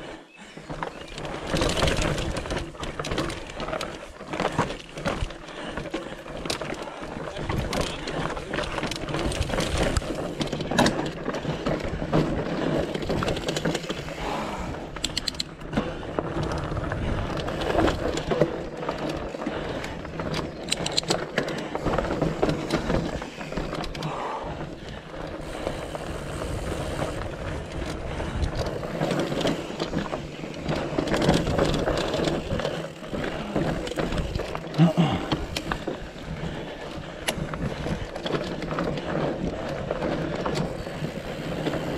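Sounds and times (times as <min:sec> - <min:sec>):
mountain bike rattling over rocks: 0:00.0 - 0:41.9.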